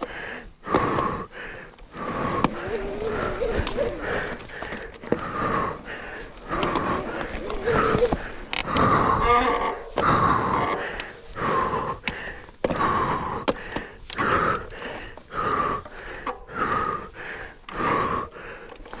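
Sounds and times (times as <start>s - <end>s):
person breathing hard: 0.0s - 19.0s.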